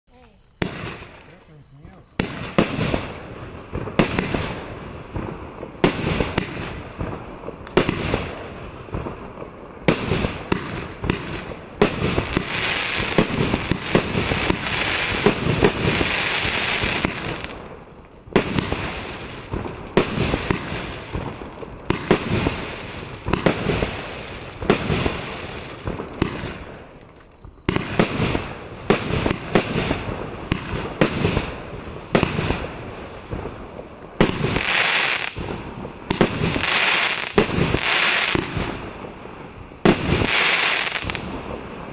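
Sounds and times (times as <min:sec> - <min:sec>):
fireworks launching and bursting: 0:00.6 - 0:41.9.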